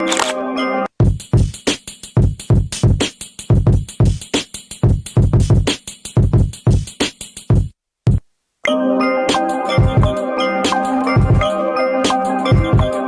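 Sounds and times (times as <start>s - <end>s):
hip-hop drum machine beat: 1.0s - 8.3s, 9.3s - 13.0s.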